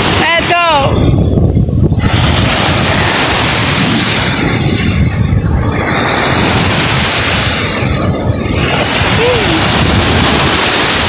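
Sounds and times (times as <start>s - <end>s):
ocean waves breaking: 0.0s - 11.0s
wind buffeting microphone: 0.0s - 11.0s.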